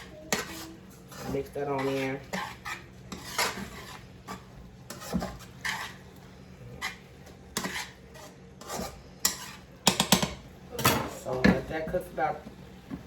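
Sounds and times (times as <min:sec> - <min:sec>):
spoon scraping and clinking a pot: 0:00.0 - 0:11.6.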